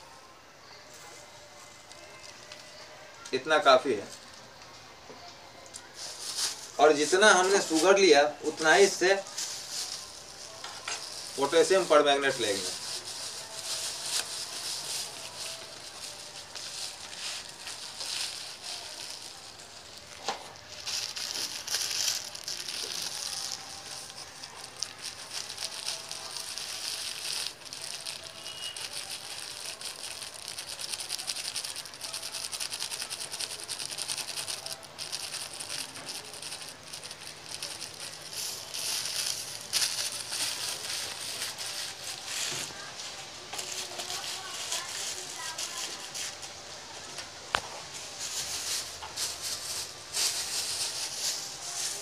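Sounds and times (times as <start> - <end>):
plastic bags crinkling: 5.8 - 52.0.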